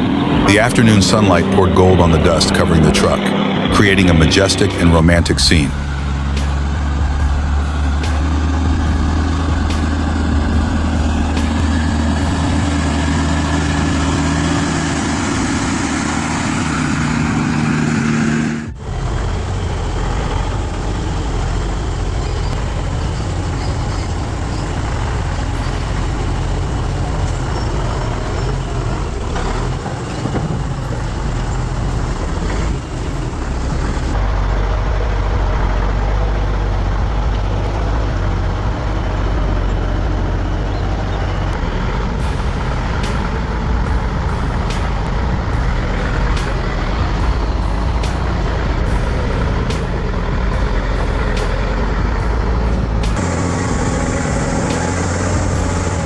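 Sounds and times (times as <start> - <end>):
truck engine deep note: 0.0 - 56.0
truck engine rough rumble: 0.0 - 56.0.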